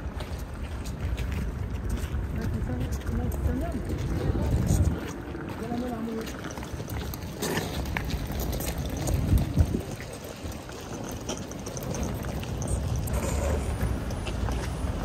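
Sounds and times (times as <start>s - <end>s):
footsteps on paving: 0.0s - 15.0s
suitcase wheels clattering: 0.0s - 15.0s.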